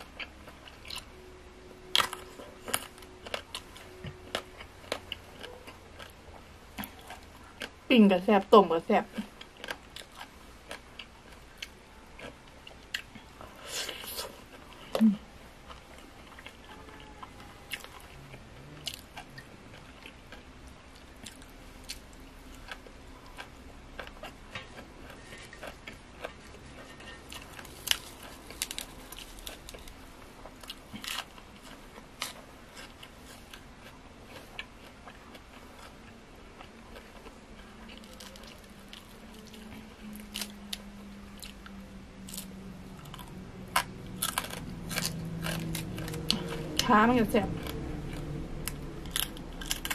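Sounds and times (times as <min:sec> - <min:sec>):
person chewing and crunching: 0:00.0 - 0:07.9, 0:09.0 - 0:49.9.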